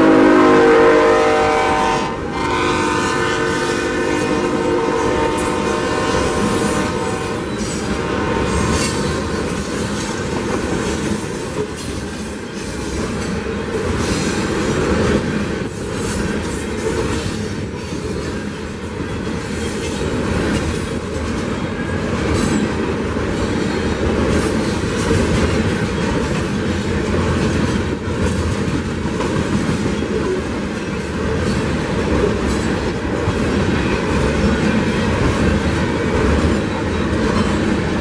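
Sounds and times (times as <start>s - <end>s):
steel train wheels rumbling on rails: 0.0s - 38.0s.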